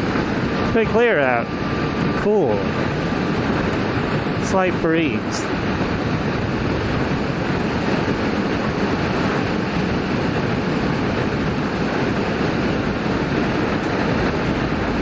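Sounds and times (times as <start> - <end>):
motorcycle road noise: 0.0 - 15.0
wind rush: 0.0 - 15.0.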